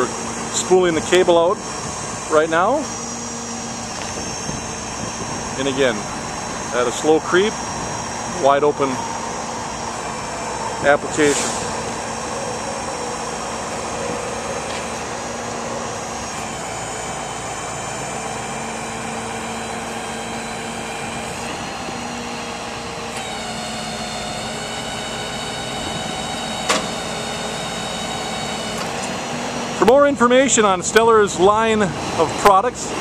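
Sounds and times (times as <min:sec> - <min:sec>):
hydraulic crane whining: 0:00.0 - 0:33.0.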